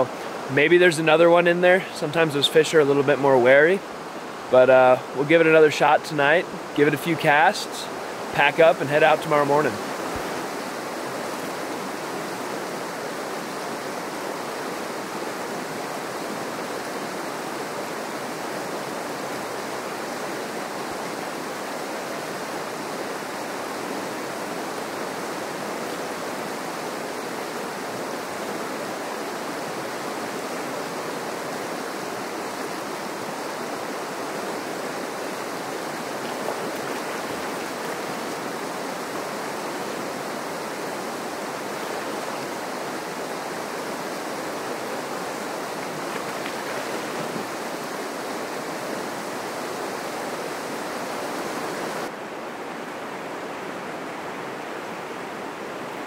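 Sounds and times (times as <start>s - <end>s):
river water rushing over riffles: 0.0s - 56.0s.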